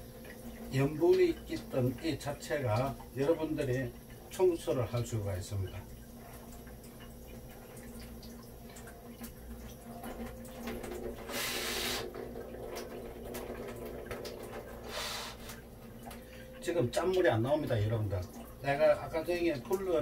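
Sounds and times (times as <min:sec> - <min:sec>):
tap water running into sink: 0:00.0 - 0:20.0.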